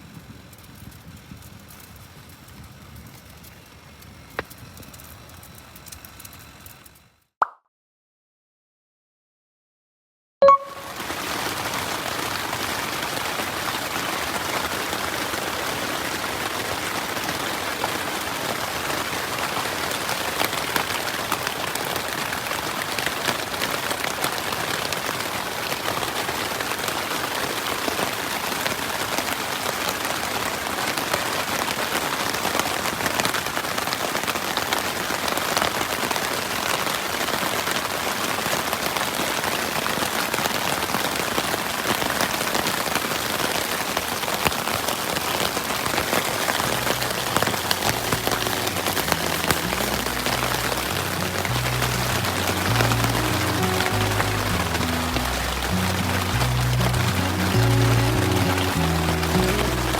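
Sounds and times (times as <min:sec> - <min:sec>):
heavy rain falling: 0:10.8 - 0:59.9.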